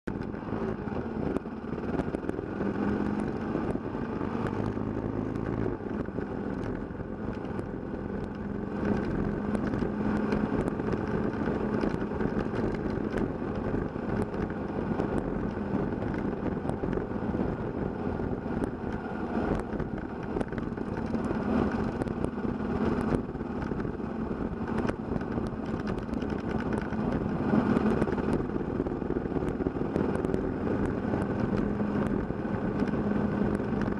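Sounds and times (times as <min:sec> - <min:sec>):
motorcycle engine running: 0:00.0 - 0:33.9
tyre noise on dirt road: 0:00.0 - 0:33.9
wind noise: 0:00.1 - 0:33.9.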